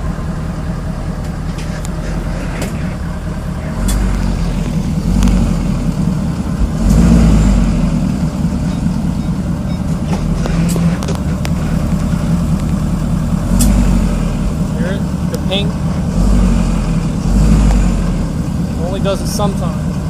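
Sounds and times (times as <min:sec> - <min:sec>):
diesel truck engine running: 0:00.0 - 0:20.0.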